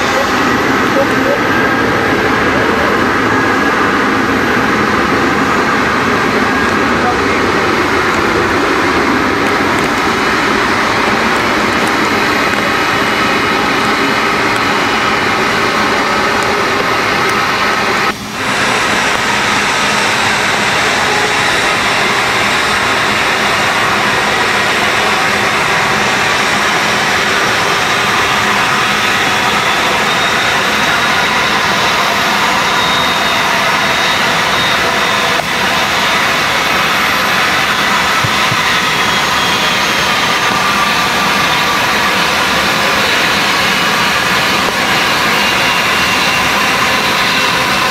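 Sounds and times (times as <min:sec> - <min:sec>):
jet engines roaring: 0:00.0 - 0:47.9.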